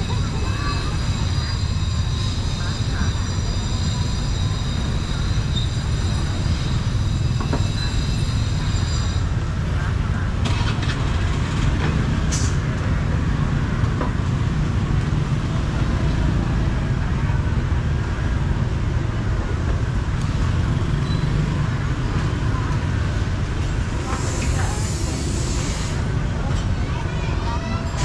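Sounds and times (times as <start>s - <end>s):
low traffic rumble: 0.0s - 28.0s.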